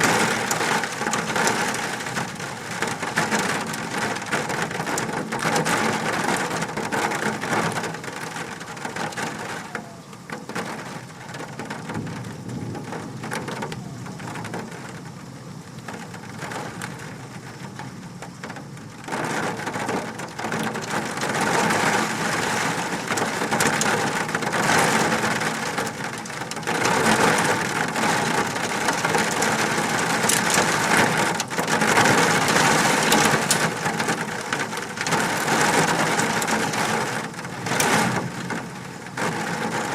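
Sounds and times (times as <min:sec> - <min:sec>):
hailstones clattering on surfaces: 0:00.0 - 0:15.1, 0:15.8 - 0:39.9.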